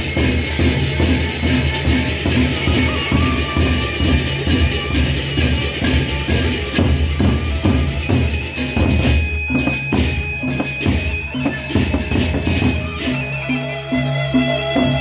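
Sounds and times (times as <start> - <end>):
hand drums in driving rhythm: 0.0 - 15.0.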